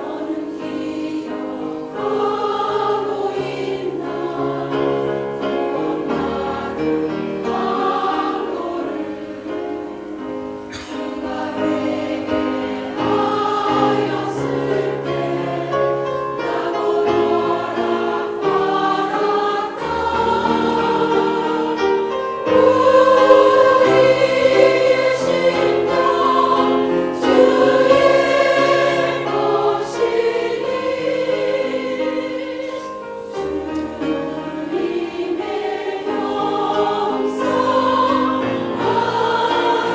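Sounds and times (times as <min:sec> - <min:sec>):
choir singing sustained chords: 0:00.0 - 0:39.9.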